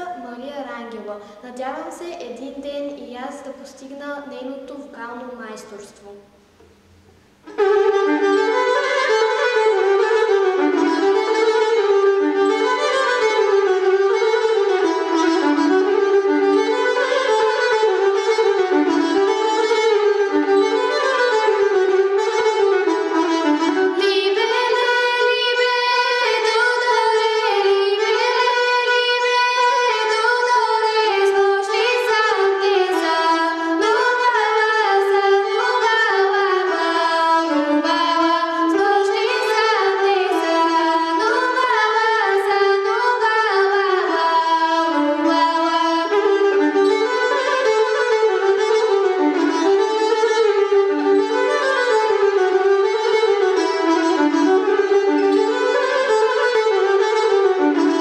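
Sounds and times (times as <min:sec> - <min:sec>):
bowed fiddle melody: 0:07.4 - 0:58.0.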